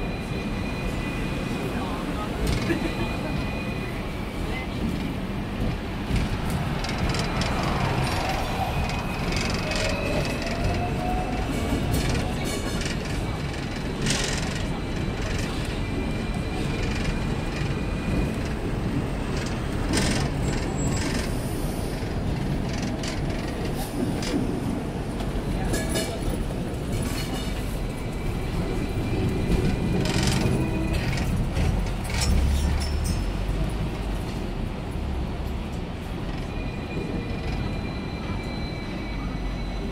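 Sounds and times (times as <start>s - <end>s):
tram wheels rumbling on rail: 0.0s - 39.9s.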